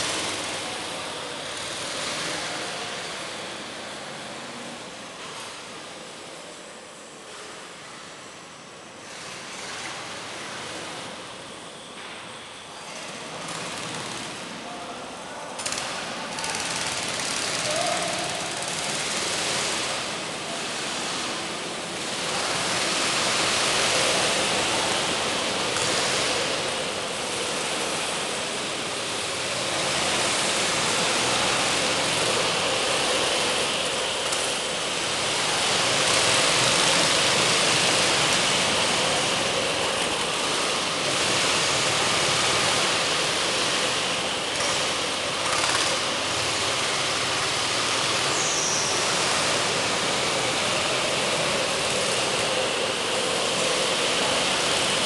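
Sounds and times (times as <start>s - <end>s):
go-kart engines running: 0.0s - 55.0s.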